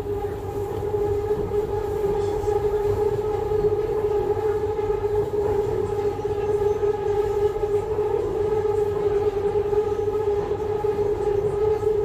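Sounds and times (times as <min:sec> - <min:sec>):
subway train whine and rumble: 0:00.0 - 0:12.0.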